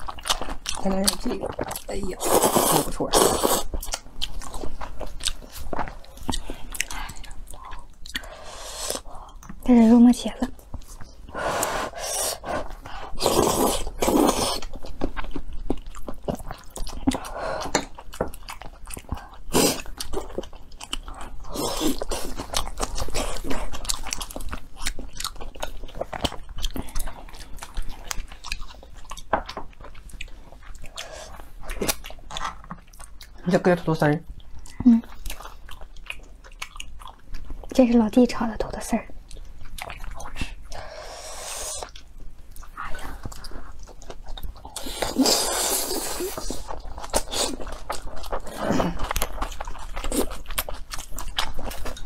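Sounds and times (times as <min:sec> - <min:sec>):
chewing with wet smacks: 0:00.0 - 0:02.2, 0:02.9 - 0:08.3, 0:12.4 - 0:40.8, 0:41.8 - 0:52.0.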